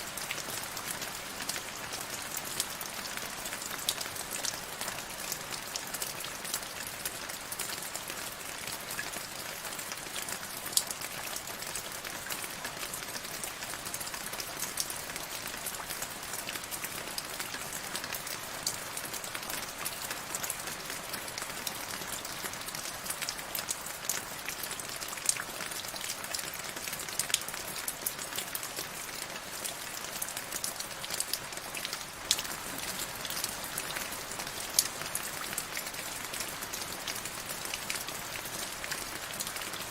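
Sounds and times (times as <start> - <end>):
rain drops ticking on hard surface: 0.1 - 39.9.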